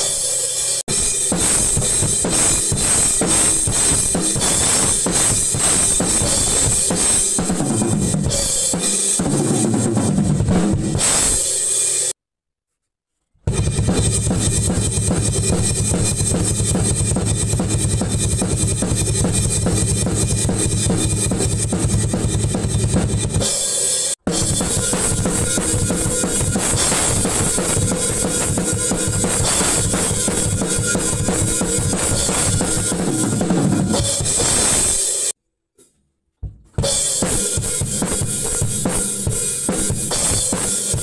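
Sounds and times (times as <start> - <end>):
acoustic drum kit playing metal beats: 0.0 - 12.2, 13.5 - 35.4, 36.4 - 41.0.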